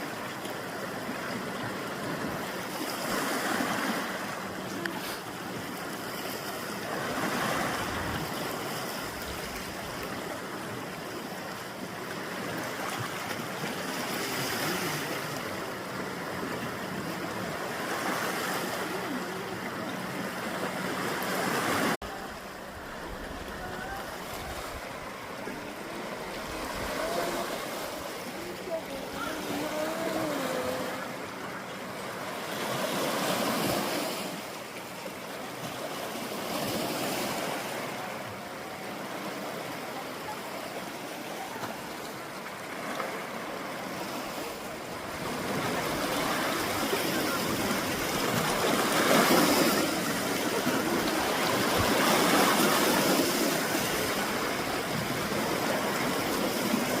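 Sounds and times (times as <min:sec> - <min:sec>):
waves breaking on rocks: 0:00.0 - 0:57.0.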